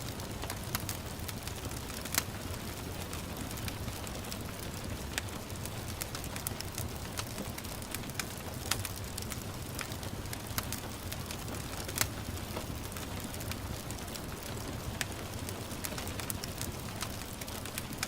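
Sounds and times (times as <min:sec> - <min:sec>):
gentle rain hissing: 0:00.0 - 0:18.0
wood fire crackling and popping: 0:00.0 - 0:18.0.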